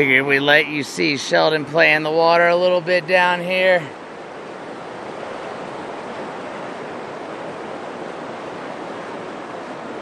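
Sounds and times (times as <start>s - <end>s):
creek running over rocks: 0.0s - 10.0s.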